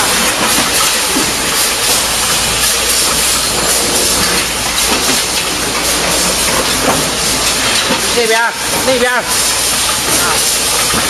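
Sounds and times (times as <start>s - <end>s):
production line machinery hiss: 0.0s - 11.0s.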